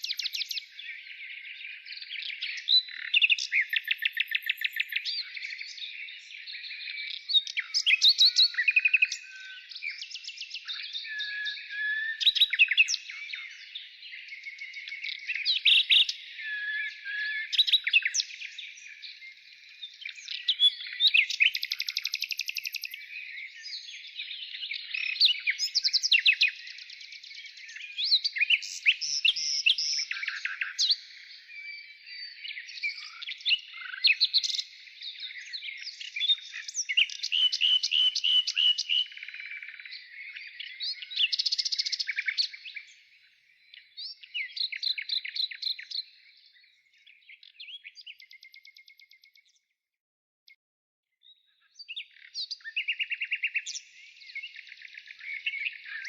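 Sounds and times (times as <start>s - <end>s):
birds chirping and singing: 0.0s - 49.6s, 51.2s - 56.0s.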